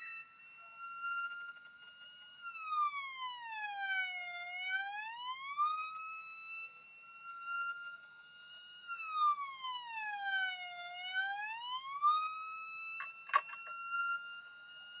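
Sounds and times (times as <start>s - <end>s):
fire engine siren: 0.0s - 15.0s.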